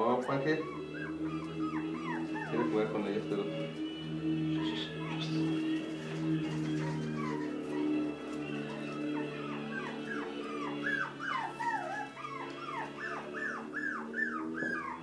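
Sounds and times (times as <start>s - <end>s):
puppy whimpering: 0.1s - 3.8s, 4.4s - 15.0s.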